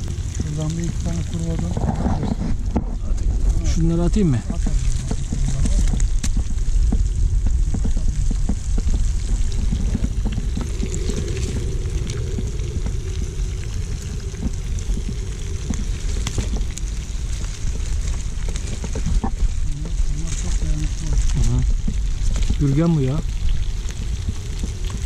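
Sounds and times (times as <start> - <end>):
fish frying in hot oil: 0.0 - 25.0.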